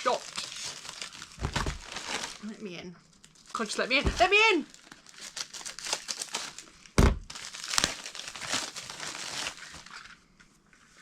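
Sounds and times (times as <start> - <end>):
packaging crinkling and tearing: 0.0 - 2.5, 3.1 - 10.2.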